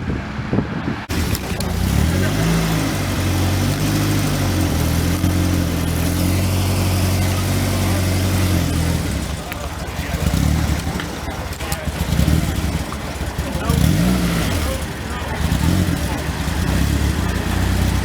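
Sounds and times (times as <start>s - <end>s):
car engine running at low revs: 0.4s - 18.0s.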